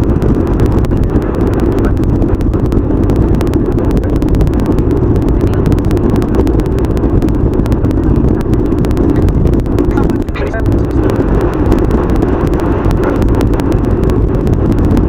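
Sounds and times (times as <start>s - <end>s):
car road and engine rumble: 0.0s - 15.0s
rapid clicking: 0.0s - 15.0s.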